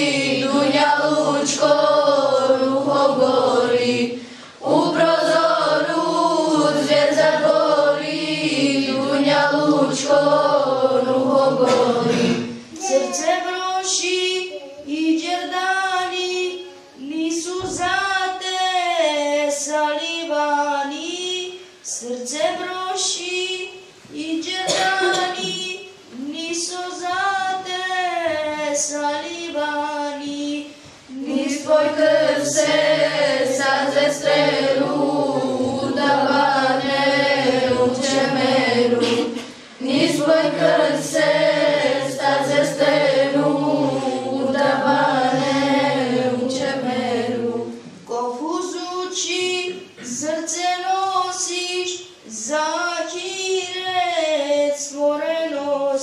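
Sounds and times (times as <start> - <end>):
children singing unaccompanied: 0.0 - 21.0, 22.2 - 56.0.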